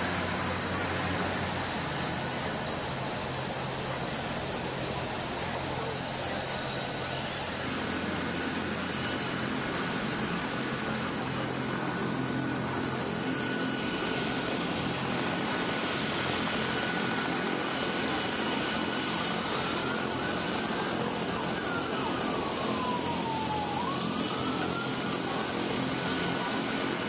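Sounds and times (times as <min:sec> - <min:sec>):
city noise: 0:00.0 - 0:27.0
emergency vehicle siren: 0:00.0 - 0:27.0.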